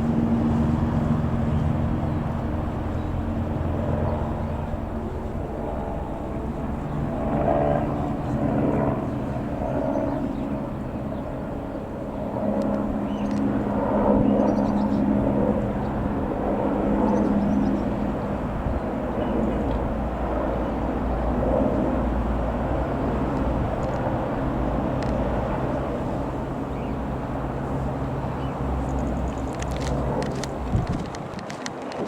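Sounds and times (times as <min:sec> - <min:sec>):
higher turbine tone: 0:00.0 - 0:31.1
helicopter turbine and rotor hum: 0:00.0 - 0:32.0.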